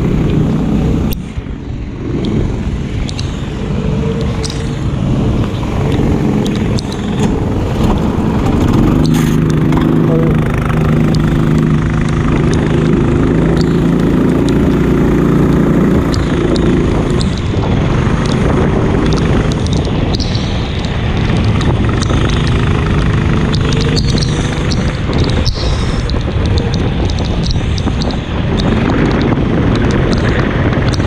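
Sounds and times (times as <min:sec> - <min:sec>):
go-kart engines running: 0:00.0 - 0:31.0.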